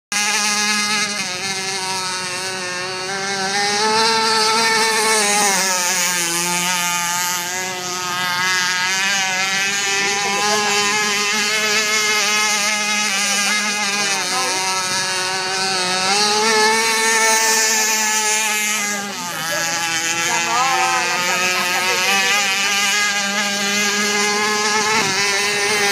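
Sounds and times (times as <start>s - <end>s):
toy boat motor running: 0.1s - 25.9s.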